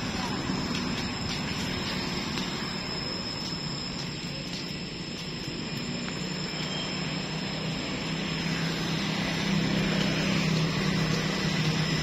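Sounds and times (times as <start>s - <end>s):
engine drone with low hum: 0.0s - 12.0s.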